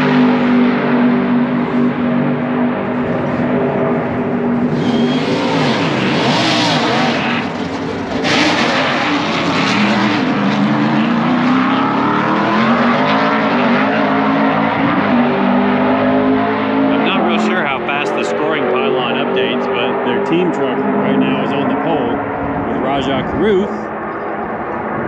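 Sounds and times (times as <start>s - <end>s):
race truck engine passing: 0.0s - 24.0s.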